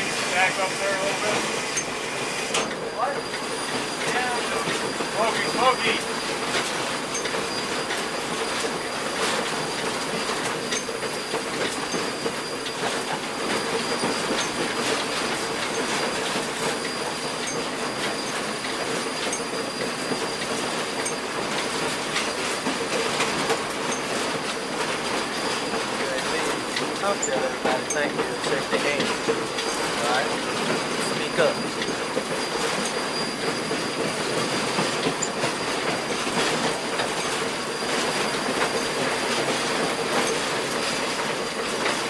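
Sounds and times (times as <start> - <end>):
train rolling on rails: 0.0 - 42.0
wheel whine: 0.0 - 42.0.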